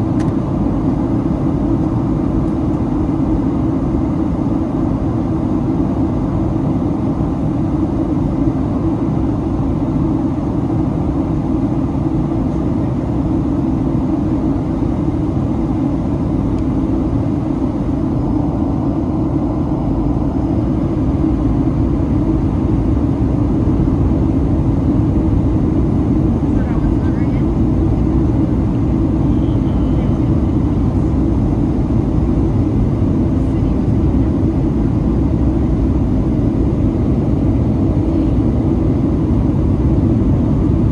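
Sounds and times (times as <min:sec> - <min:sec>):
aircraft cabin drone: 0:00.0 - 0:40.9.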